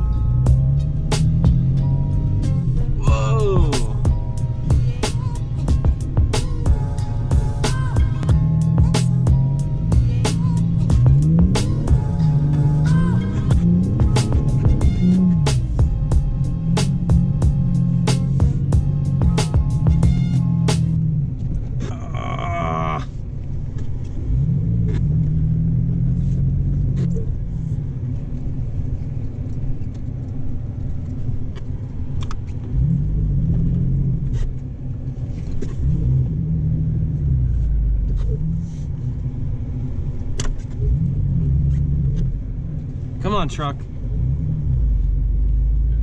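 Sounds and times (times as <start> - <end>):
truck engine pulling through snow: 0.0 - 3.1, 3.7 - 46.0.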